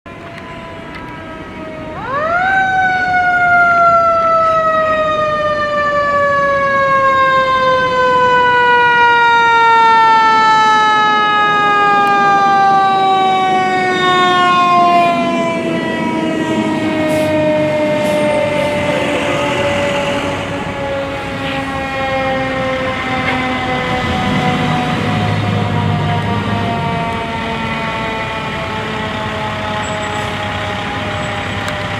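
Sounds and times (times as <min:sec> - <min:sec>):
fire engine siren winding: 0:00.1 - 0:31.9.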